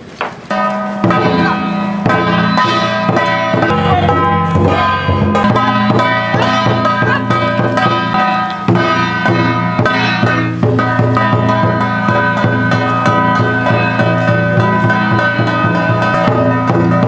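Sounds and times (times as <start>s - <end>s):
drum strokes: 0.2s - 17.0s
sustained melody instruments: 0.4s - 17.0s.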